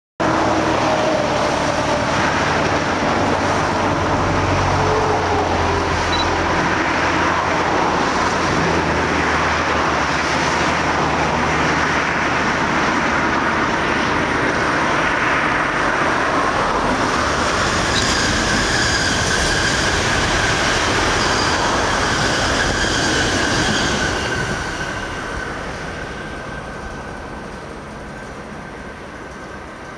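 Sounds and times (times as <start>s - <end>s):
train wheels rumbling on rail: 0.2s - 29.9s.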